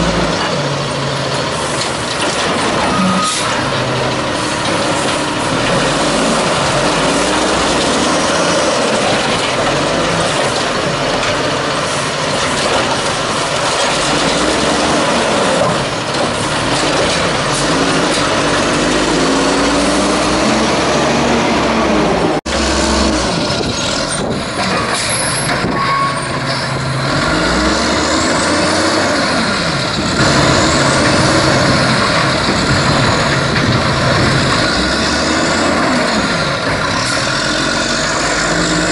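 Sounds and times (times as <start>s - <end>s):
truck engine revving: 0.0s - 38.9s
truck engine running loud: 0.0s - 38.9s.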